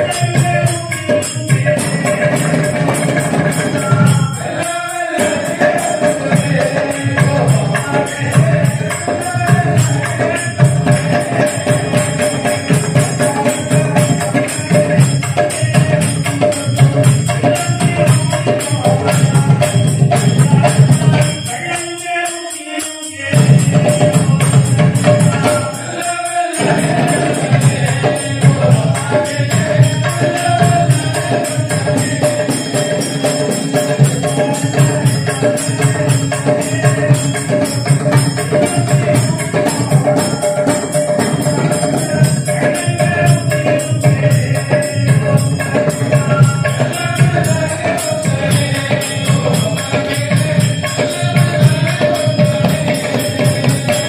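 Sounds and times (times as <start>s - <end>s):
group chanting-style singing: 0.0s - 54.0s
jingling small cymbals: 0.0s - 54.0s
hand drum: 5.2s - 21.4s, 26.6s - 54.0s.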